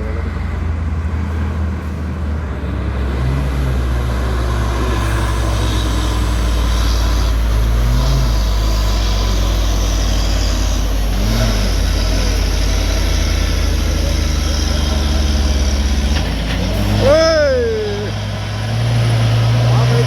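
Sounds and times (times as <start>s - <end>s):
heavy truck engine revving: 0.0s - 20.0s.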